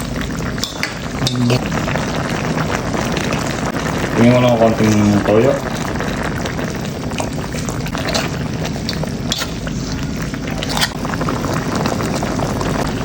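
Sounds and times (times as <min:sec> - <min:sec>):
sauce bubbling in a pan: 0:00.0 - 0:13.0.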